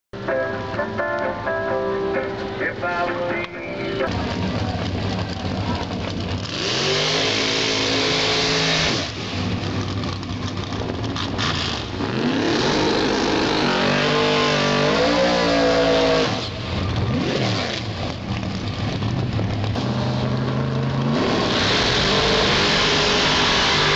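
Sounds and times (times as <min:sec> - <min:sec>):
drag racing engines revving: 0:02.2 - 0:23.9.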